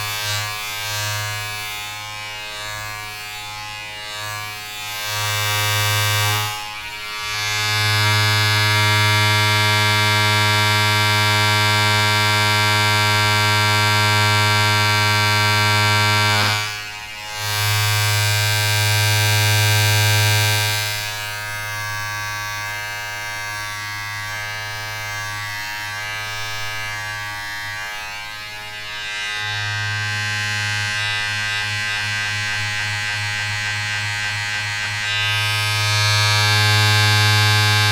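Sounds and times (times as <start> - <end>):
small electric motor buzzing: 0.0 - 37.9.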